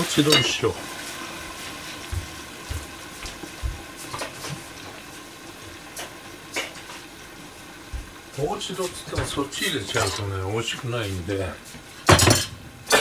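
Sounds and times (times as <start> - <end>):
food simmering in frying pan: 0.0 - 13.0.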